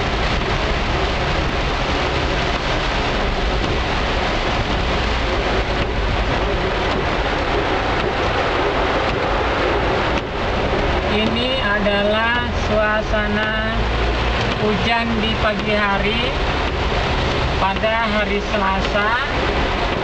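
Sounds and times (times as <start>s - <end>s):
car running: 0.0s - 20.0s
heavy rain on car roof: 0.0s - 20.0s
tyres on wet road: 0.0s - 20.0s.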